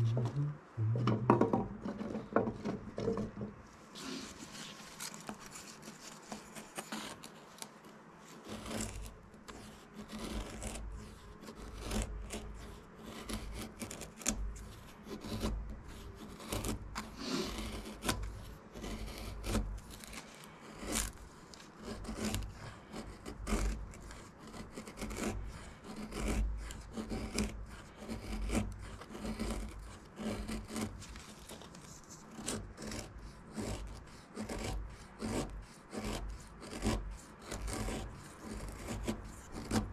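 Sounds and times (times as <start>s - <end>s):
knife scraping wood: 1.1s - 39.9s.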